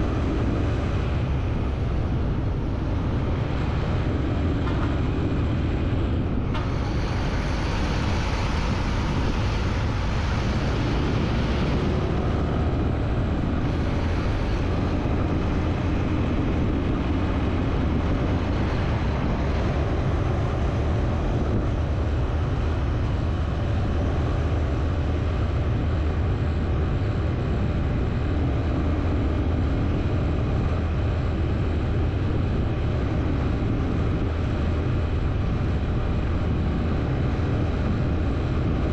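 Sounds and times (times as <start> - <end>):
vehicle running rumble: 0.0 - 38.9.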